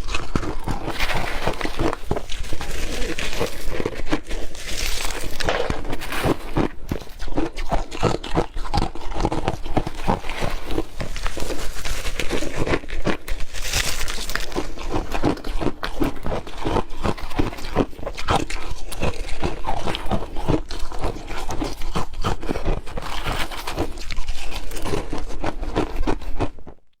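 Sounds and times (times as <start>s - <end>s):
crushed ice being chewed: 0.0s - 27.0s.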